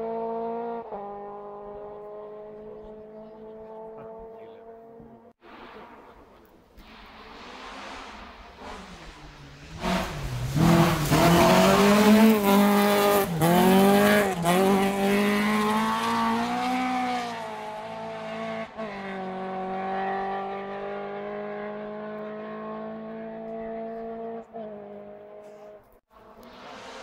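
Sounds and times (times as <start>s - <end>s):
rally car engine revving: 0.0s - 6.0s, 6.9s - 27.0s.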